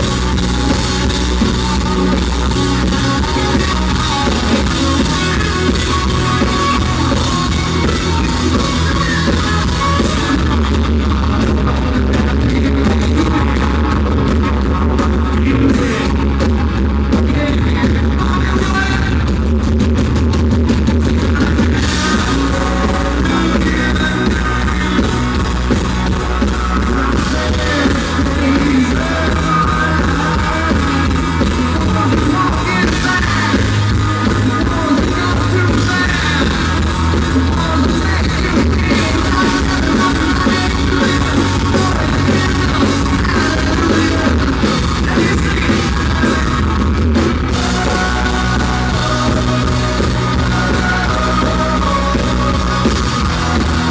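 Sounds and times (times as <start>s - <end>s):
drum kit: 0.0s - 53.9s
electric guitar: 0.0s - 53.9s
lead vocals: 0.0s - 53.9s.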